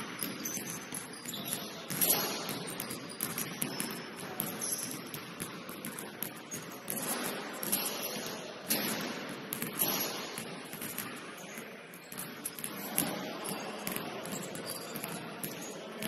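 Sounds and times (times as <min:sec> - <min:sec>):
basketball bouncing on court: 0:00.0 - 0:16.0
noisy hall background: 0:00.0 - 0:16.0.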